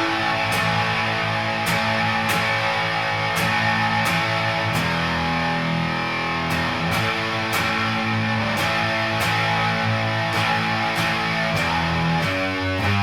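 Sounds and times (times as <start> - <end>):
fuzz-distorted electric guitar chords: 0.0 - 13.0.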